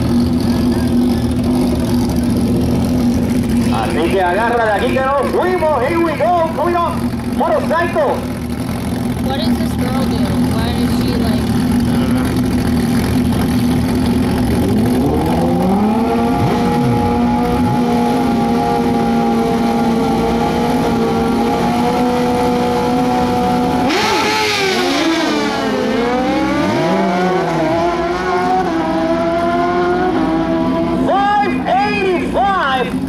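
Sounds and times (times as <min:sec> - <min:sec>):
motorcycle engine revving: 0:00.0 - 0:31.1.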